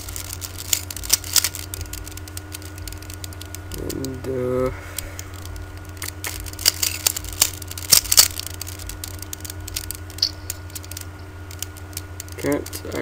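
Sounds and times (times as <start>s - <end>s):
puzzle cube layers clicking: 0.0s - 13.0s.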